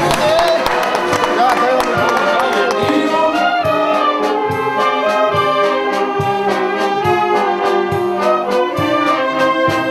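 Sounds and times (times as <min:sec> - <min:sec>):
brass band music: 0:00.0 - 0:09.9.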